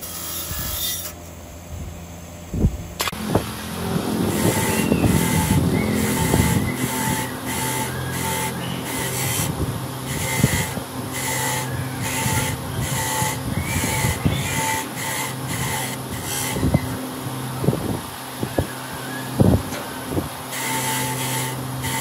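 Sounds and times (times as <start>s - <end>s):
grinding wheel scraping a bolt: 0.0s - 1.2s, 3.0s - 17.1s, 19.1s - 22.0s
electric motor humming: 0.0s - 22.0s.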